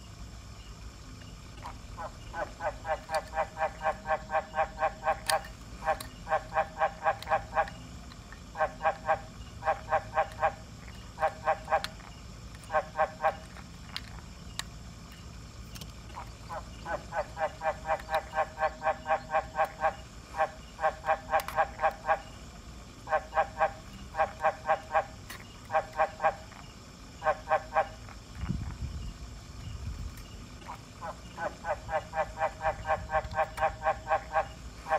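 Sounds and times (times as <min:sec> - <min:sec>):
frog croaking: 0:01.3 - 0:34.9.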